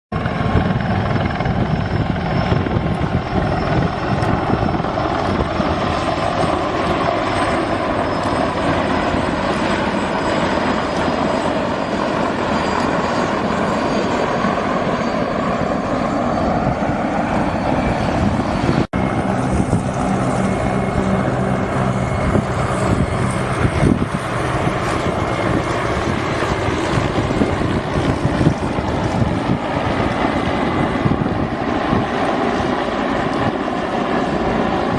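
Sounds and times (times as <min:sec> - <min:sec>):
helicopter rotor chop: 0:00.1 - 0:34.9
high turbine whine: 0:00.1 - 0:34.9.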